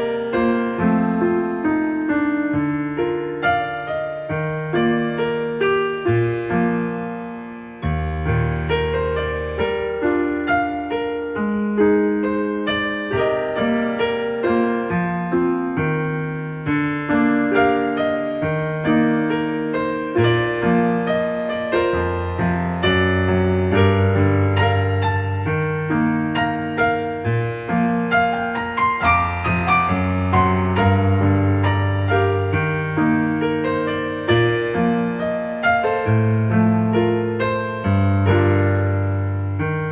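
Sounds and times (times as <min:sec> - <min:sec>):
gentle piano music: 0:00.0 - 0:39.9.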